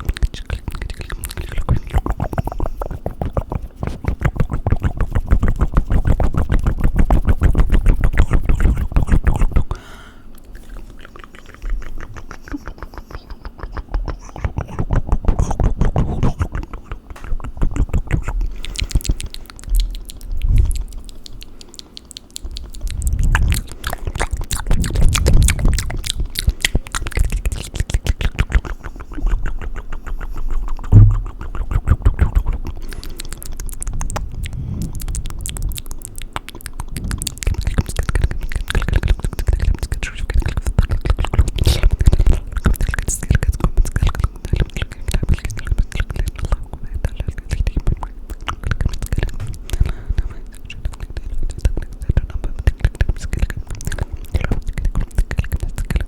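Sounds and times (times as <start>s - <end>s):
low mouth pops: 0.0s - 9.8s, 10.4s - 56.0s
wet mouth and tongue sounds: 0.0s - 56.0s.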